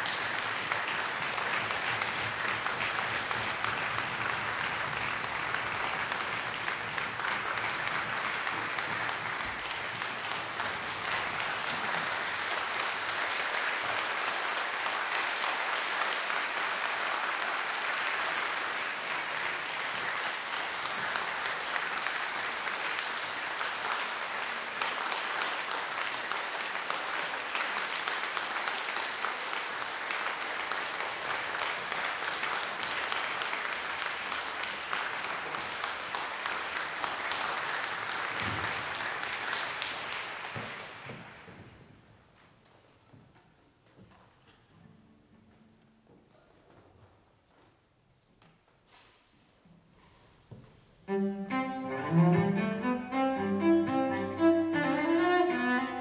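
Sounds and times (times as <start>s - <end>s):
audience applauding: 0.0s - 41.8s, 51.1s - 56.0s.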